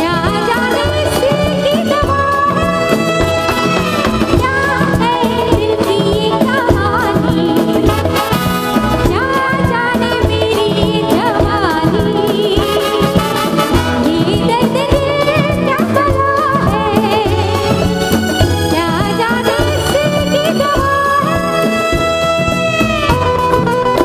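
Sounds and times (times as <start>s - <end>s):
keyboards: 0.0s - 24.0s
percussion steady beat: 0.0s - 24.0s
woman singing into a microphone: 0.0s - 24.0s.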